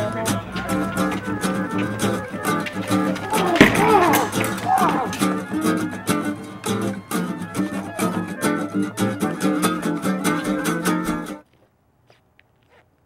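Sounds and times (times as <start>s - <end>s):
music with steady beat: 0.0s - 11.4s.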